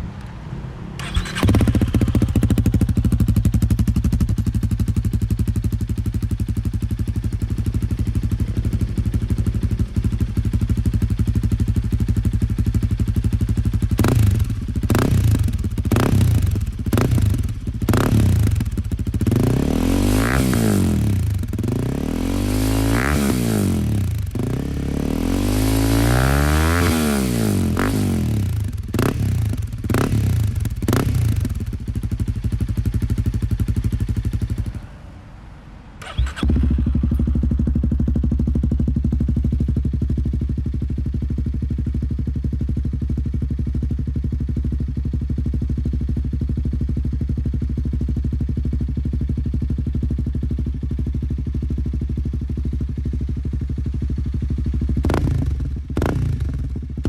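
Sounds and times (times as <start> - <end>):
motorcycle engine revving and idling: 1.0 - 35.0, 36.0 - 57.0.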